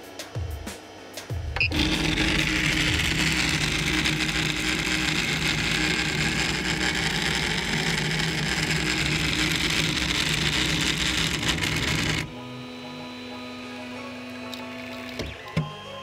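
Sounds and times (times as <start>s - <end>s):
printer grinding buzz: 1.6s - 15.9s.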